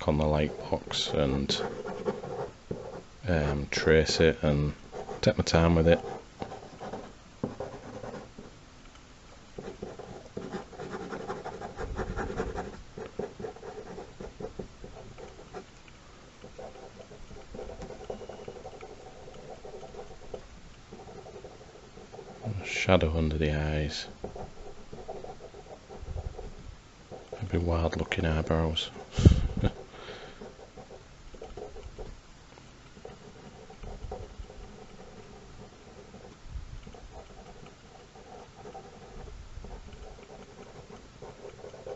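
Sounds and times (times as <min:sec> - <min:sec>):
pen scratching on paper: 0:00.0 - 0:08.5, 0:09.6 - 0:15.7, 0:16.4 - 0:32.2, 0:32.9 - 0:41.9.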